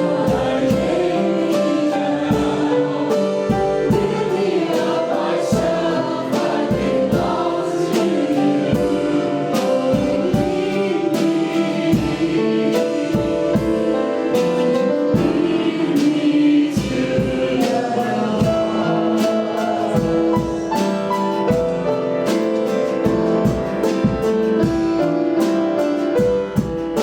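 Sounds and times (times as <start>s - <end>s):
congregation singing: 0.0s - 27.0s
worship band playing: 0.0s - 27.0s.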